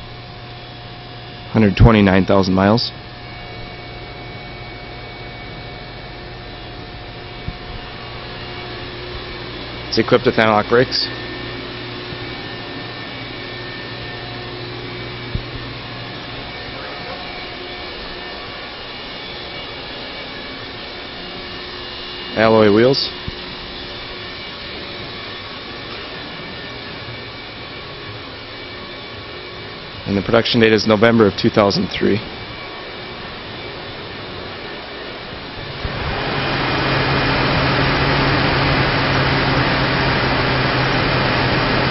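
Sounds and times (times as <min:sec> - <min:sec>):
faint hum tones: 0:00.0 - 0:41.9
whooshing fan-like noise: 0:00.0 - 0:41.9.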